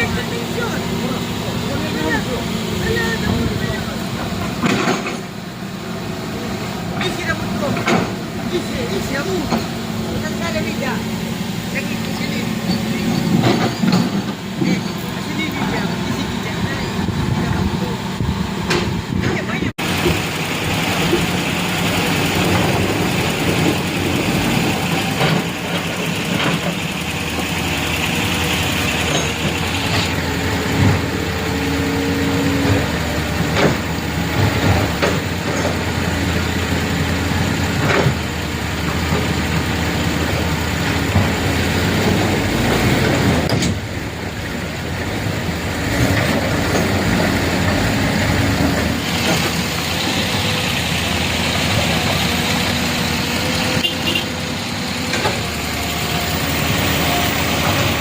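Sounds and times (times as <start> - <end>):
vehicle engines idling in traffic: 0.0 - 58.0.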